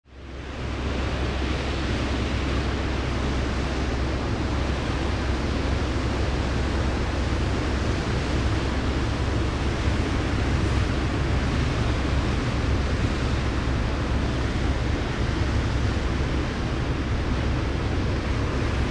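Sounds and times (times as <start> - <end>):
ship low rumble with hiss: 0.1 - 18.9.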